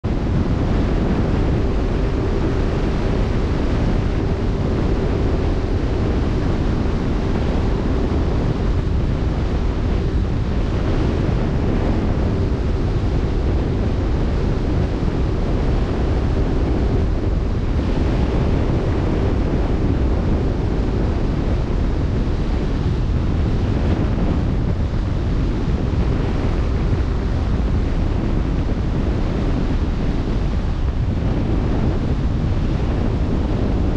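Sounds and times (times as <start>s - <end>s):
faint hum: 0.0s - 33.9s
wind buffeting microphone: 0.0s - 33.9s.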